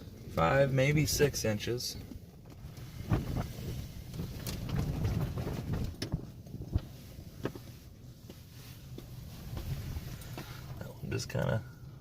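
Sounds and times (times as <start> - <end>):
handling rumble and rustle: 0.0 - 12.0.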